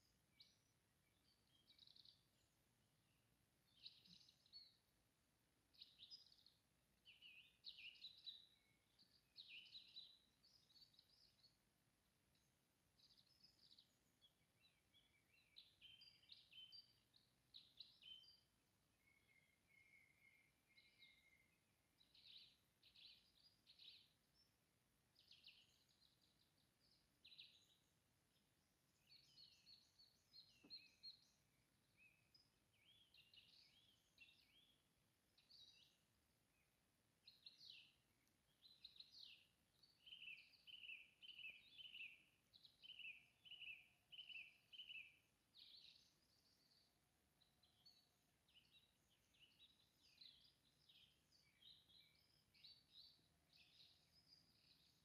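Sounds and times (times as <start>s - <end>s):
faint songbirds singing: 0.0s - 55.0s.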